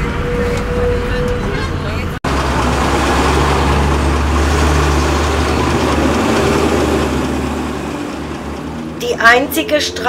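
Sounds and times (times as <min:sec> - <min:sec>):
lorry diesel engine passing: 0:00.0 - 0:10.0.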